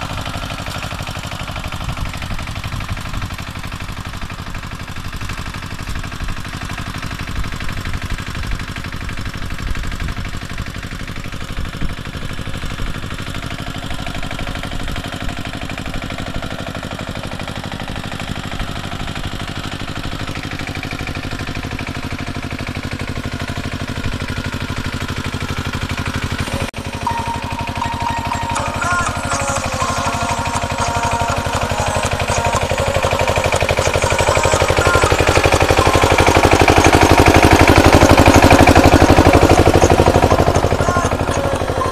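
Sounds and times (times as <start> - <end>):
diesel tiller engine running: 0.0 - 41.9.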